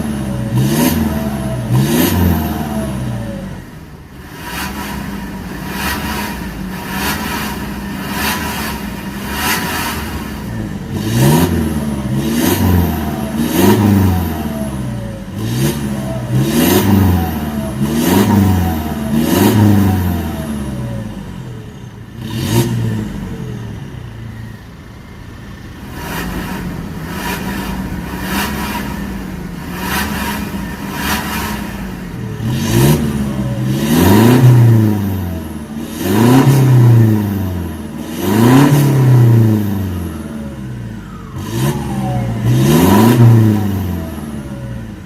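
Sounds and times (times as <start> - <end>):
diesel engine idling and revving: 0.0 - 45.0.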